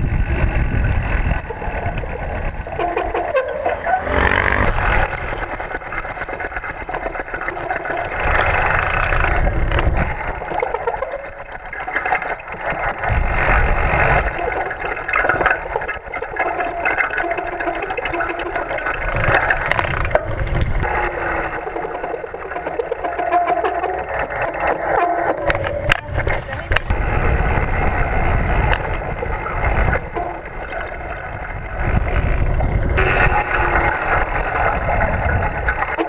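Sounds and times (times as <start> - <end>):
bike rolling rumble: 0.0 - 36.0
disc brakes grinding and rattling: 0.1 - 36.0.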